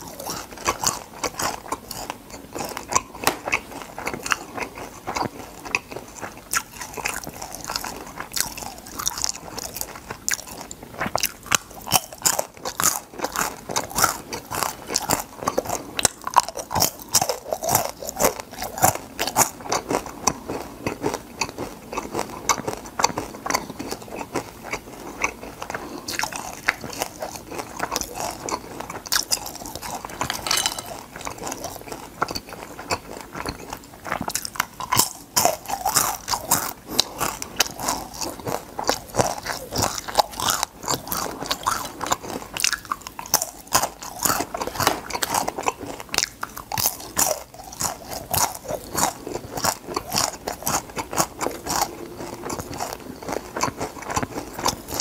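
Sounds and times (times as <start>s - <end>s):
crisp food crunching: 0.0s - 55.0s.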